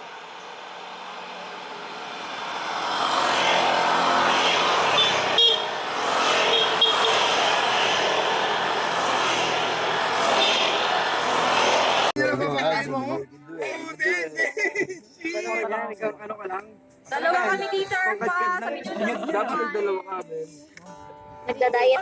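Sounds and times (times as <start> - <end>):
road vehicle noise: 0.0 - 22.0.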